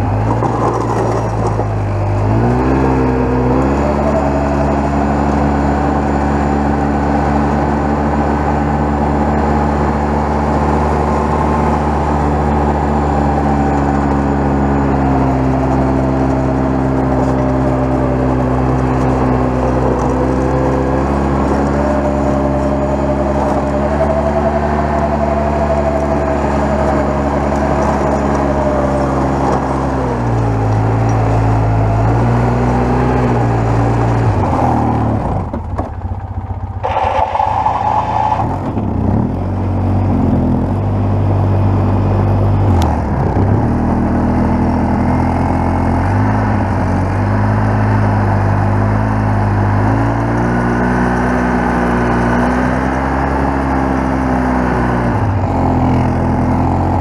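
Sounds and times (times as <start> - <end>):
atv engine under load: 0.0 - 57.0.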